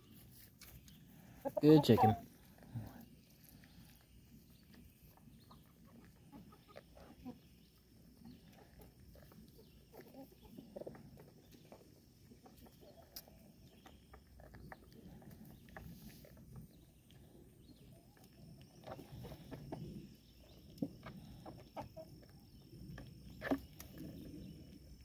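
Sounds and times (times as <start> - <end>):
animals nibbling and pecking: 0.0 - 25.0
goat and chicken sounds: 0.0 - 25.0.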